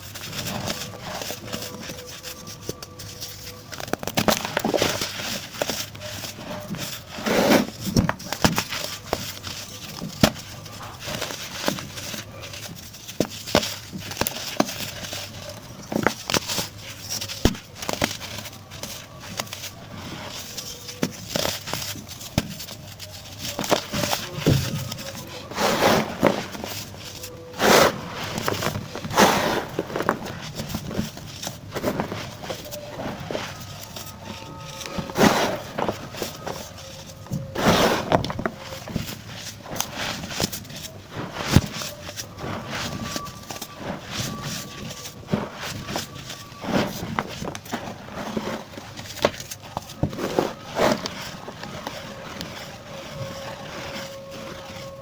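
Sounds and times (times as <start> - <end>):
baking soda chunks crunching: 0.0 - 55.0.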